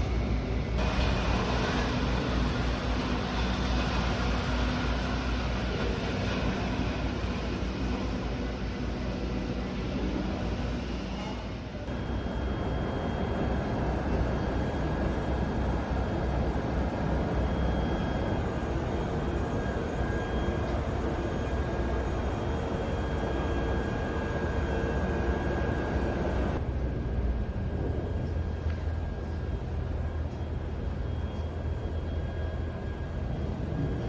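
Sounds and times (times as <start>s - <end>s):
electric train rumbling: 0.0s - 34.0s
faint whining tones: 0.0s - 34.0s.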